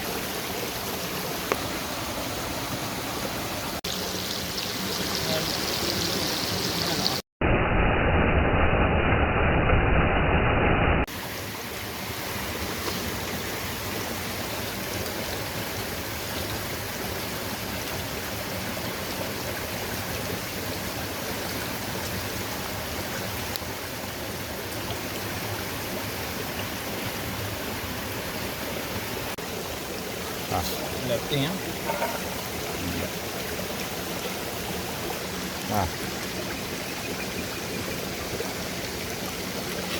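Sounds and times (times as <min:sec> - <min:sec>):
stream water flowing: 0:00.0 - 0:07.2, 0:11.1 - 0:39.9.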